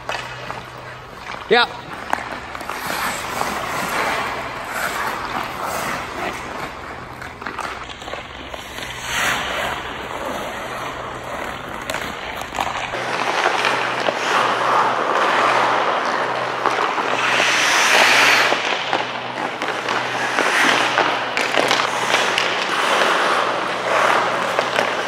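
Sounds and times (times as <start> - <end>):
skate blades scraping on ice: 0.0 - 25.0
stick and puck clicks: 0.0 - 25.0.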